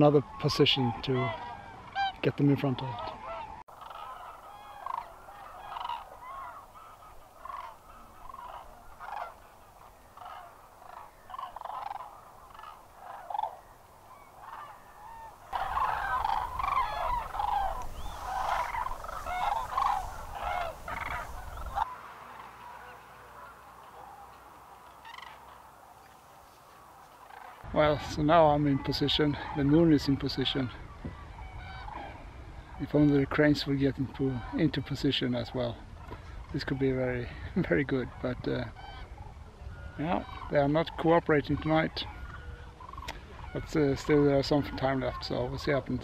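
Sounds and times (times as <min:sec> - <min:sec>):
cranes calling: 0:00.0 - 0:46.0.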